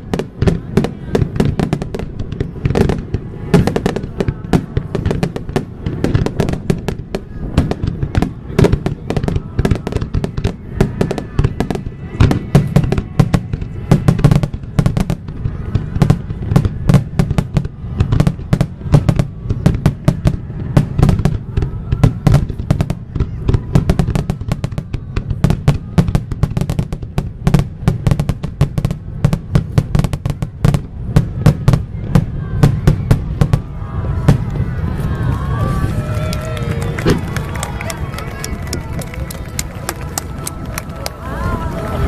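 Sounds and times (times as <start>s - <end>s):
continuous low rumble: 0.0s - 42.0s.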